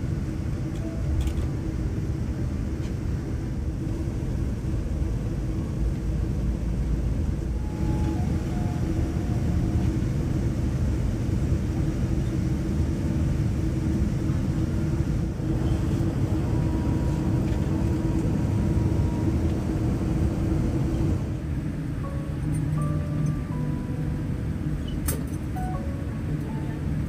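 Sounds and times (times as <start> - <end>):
airliner cabin rumble: 0.0 - 27.0.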